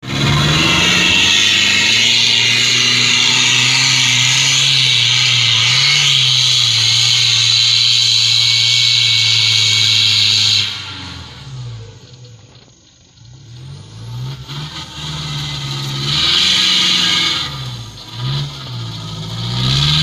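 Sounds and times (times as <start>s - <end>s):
truck engine at high revs: 0.0s - 20.0s.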